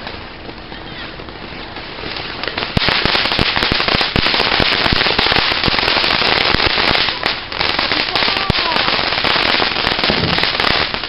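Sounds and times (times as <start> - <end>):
firework fountains hissing and popping: 0.0 - 11.0.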